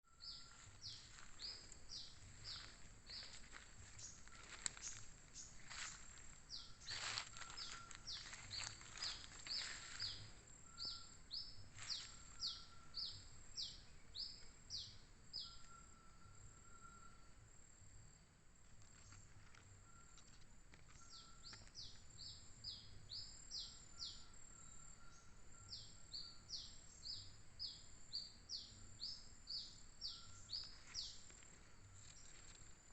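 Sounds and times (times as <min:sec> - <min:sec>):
bird chirping: 0:00.0 - 0:17.3, 0:19.0 - 0:32.6.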